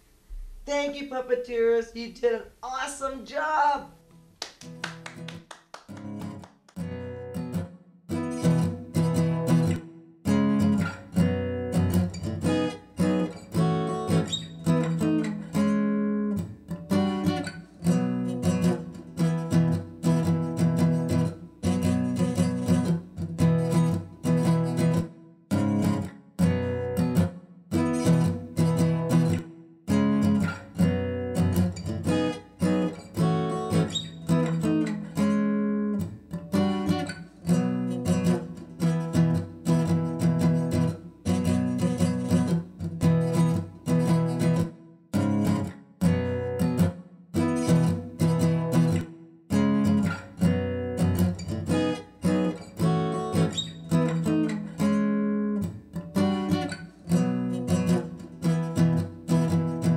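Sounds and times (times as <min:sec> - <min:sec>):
guitar chords strummed: 0:03.3 - 0:59.9.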